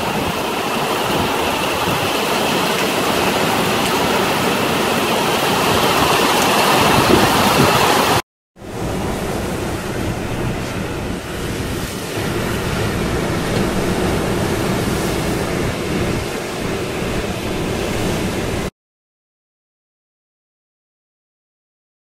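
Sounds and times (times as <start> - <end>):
storm wind rushing: 0.0 - 18.7
surf: 0.0 - 18.7
wind buffeting microphone: 0.0 - 18.7.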